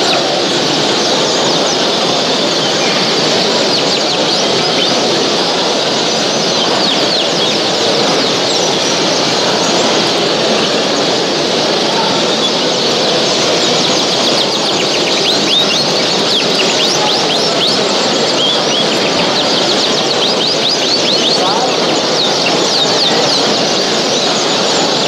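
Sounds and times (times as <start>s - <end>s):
caged birds chirping and singing: 0.0s - 25.0s.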